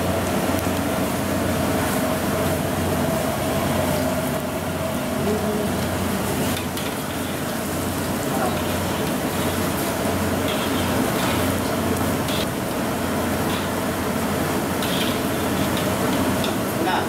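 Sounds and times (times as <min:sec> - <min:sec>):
deep-frying sizzle in oil: 0:00.0 - 0:17.0
low machine hum: 0:00.0 - 0:17.0.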